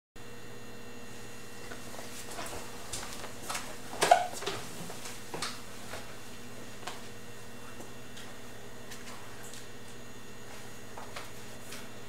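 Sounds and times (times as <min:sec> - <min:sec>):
steady hum and hiss: 0:00.2 - 0:12.0.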